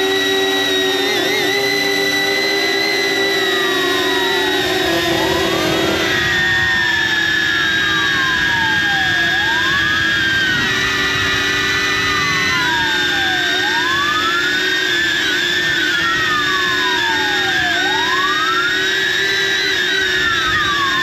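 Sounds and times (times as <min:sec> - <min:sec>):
drone propellers whining: 0:00.0 - 0:21.0
siren wailing: 0:00.0 - 0:21.0.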